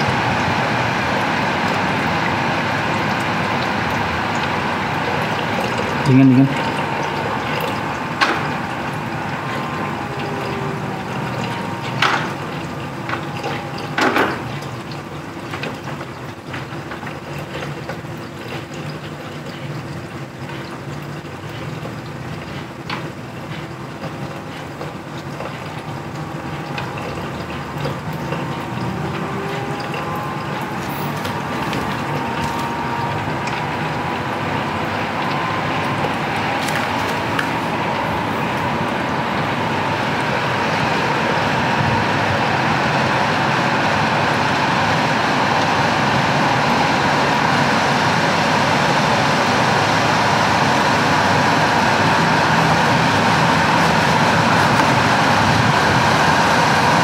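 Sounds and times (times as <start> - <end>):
fan hum: 0.0 - 57.0
water trickling: 0.0 - 57.0.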